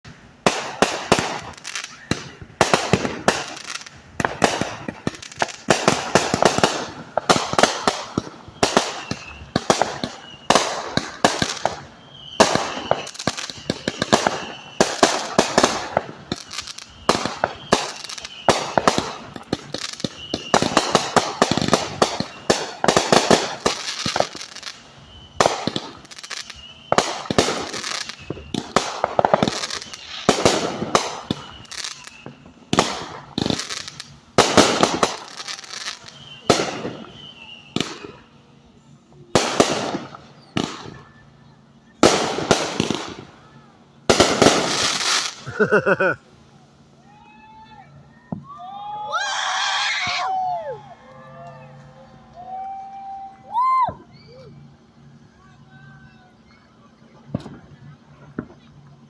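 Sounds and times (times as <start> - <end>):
fireworks bangs and crackles: 0.0 - 46.2, 53.2 - 59.0.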